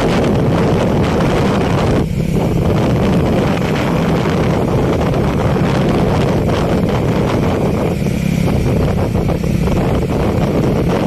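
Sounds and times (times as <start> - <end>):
low engine hum: 0.0 - 11.0
road noise: 0.0 - 11.0
wind rushing over microphone: 0.0 - 11.0.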